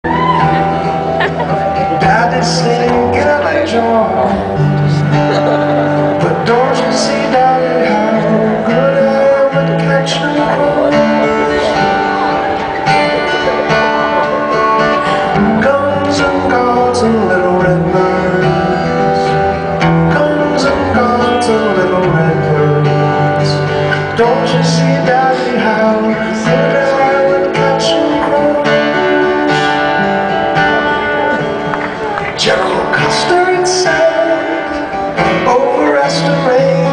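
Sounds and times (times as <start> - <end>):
acoustic guitars playing: 0.0 - 36.9.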